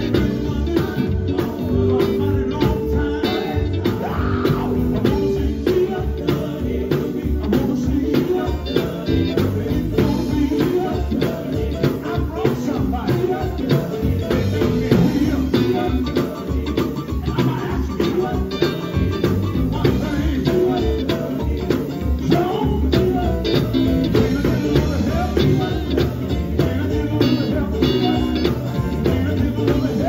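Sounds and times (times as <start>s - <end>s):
drum kit: 0.0s - 30.0s
electric guitar: 0.0s - 30.0s
gospel band playing: 0.0s - 30.0s
voices singing: 0.0s - 30.0s.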